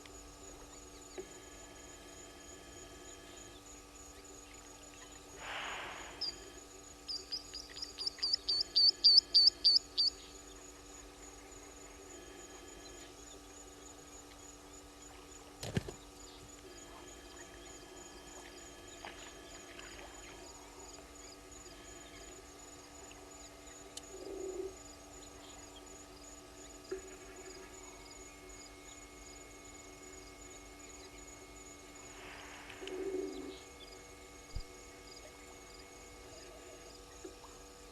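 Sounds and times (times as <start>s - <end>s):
insects chirping: 0.0s - 37.9s.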